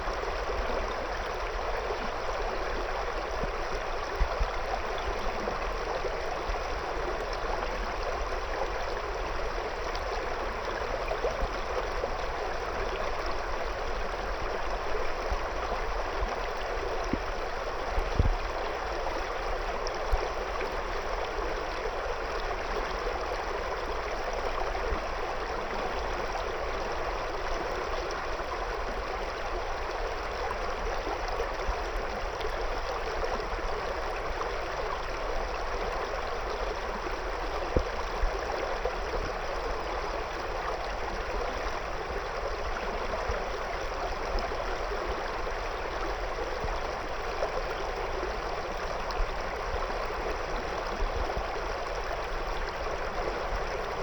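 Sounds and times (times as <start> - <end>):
river water flowing over stones: 0.0 - 54.0.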